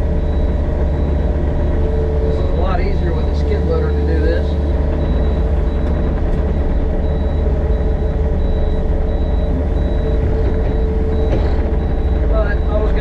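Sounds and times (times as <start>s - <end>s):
diesel engine running: 0.0s - 13.0s
faint high pulsing tone: 0.0s - 13.0s.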